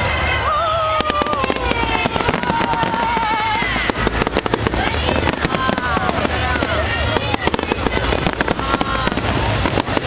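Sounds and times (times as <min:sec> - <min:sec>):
fireworks bursting and crackling: 0:00.0 - 0:10.0
music over loudspeakers: 0:00.0 - 0:10.0.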